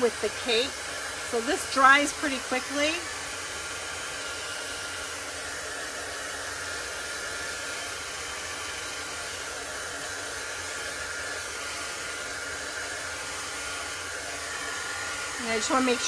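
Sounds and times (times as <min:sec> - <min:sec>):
fan whine: 0:00.0 - 0:16.0
heat tool blowing air: 0:00.0 - 0:16.0.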